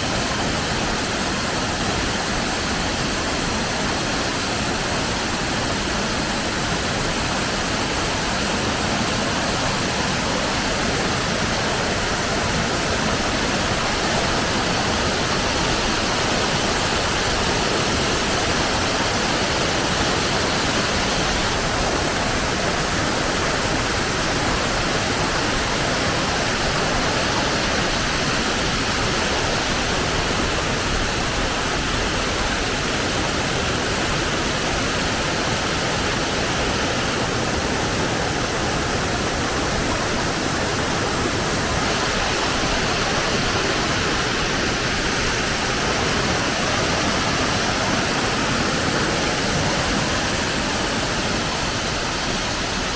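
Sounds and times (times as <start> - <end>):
waterfall pouring: 0.0 - 52.9.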